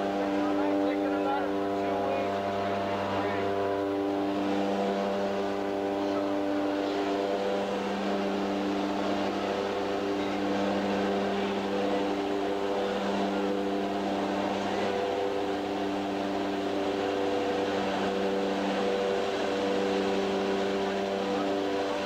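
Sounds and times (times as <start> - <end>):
aircraft engine and propeller drone: 0.0 - 22.0.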